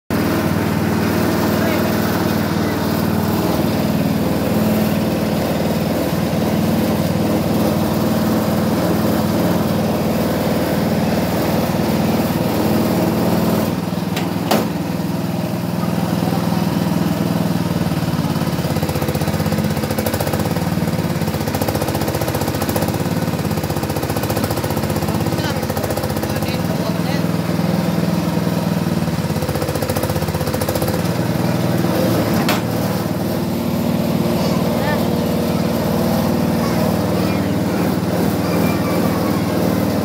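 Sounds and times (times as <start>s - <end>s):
filling machine humming: 0.1s - 40.0s.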